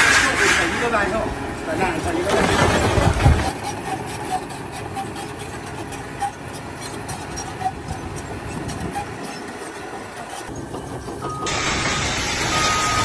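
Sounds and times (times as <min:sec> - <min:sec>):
machinery running: 0:00.0 - 0:13.0.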